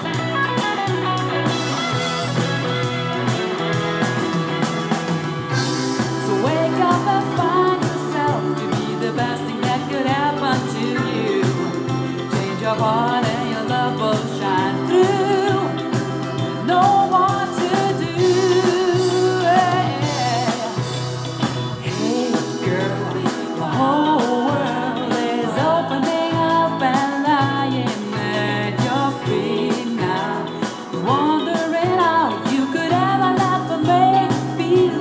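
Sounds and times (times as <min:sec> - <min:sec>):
pop song with singing and guitar: 0:00.0 - 0:35.0.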